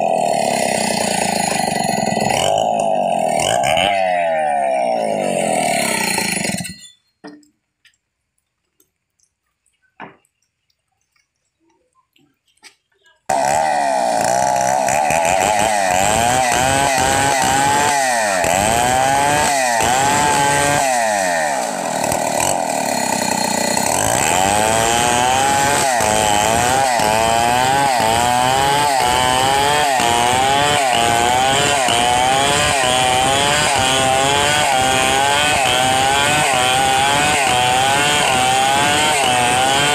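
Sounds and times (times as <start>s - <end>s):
chainsaw cutting wood: 0.0s - 7.0s, 12.7s - 39.9s.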